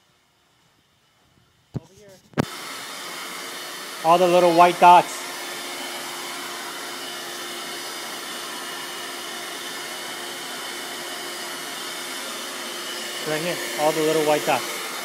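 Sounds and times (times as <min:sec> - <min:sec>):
vacuum cleaner running: 0:02.4 - 0:15.0.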